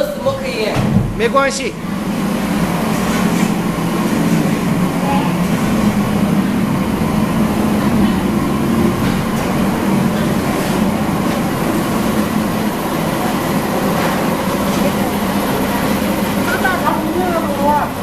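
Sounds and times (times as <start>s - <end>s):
machinery rumbling with low hum: 0.0s - 18.0s.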